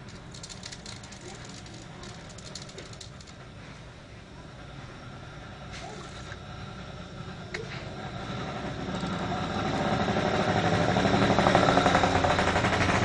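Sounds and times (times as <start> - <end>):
vehicle engine pulsing: 0.0 - 13.0.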